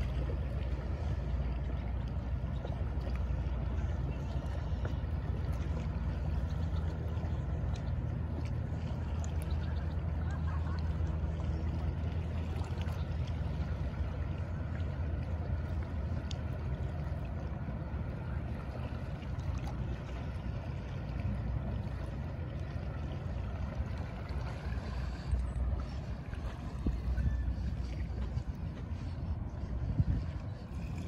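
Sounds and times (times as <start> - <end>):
ferry engines droning: 0.0 - 31.0.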